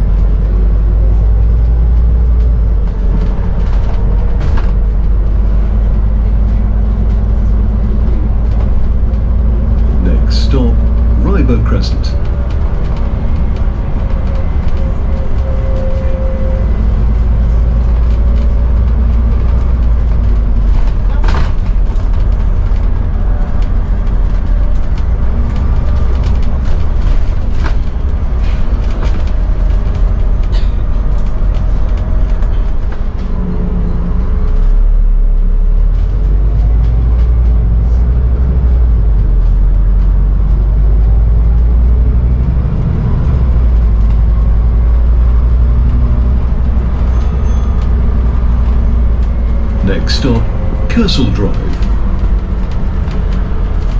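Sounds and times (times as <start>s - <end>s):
bus diesel engine running: 0.0s - 53.9s
road noise: 0.0s - 53.9s.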